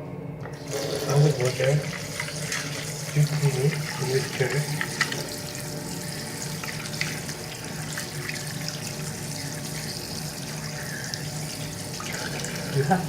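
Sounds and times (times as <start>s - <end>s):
tap water running into sink: 0.5s - 13.0s.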